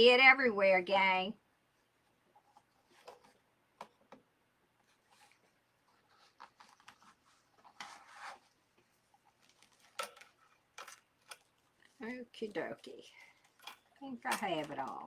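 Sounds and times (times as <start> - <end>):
mesh fabric rustling: 1.7 - 4.1, 4.7 - 15.0.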